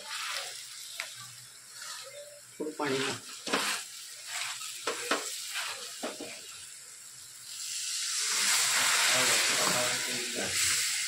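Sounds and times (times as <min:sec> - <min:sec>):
loud sizzle of frying food: 0:00.0 - 0:11.0.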